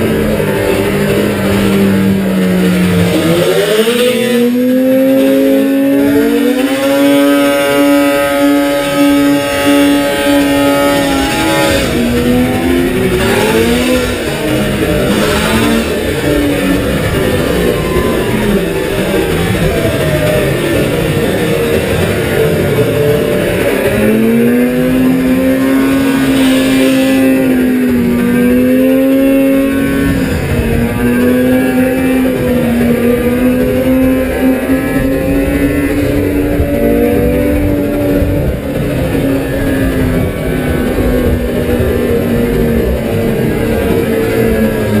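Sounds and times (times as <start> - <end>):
second snowmobile engine: 0.0 - 45.0
snowmobile engine revving: 0.0 - 45.0.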